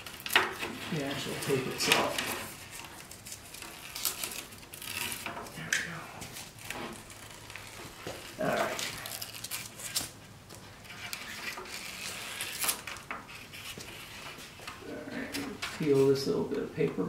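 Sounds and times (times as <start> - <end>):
tape liner peeling rustle: 0.0 - 16.2.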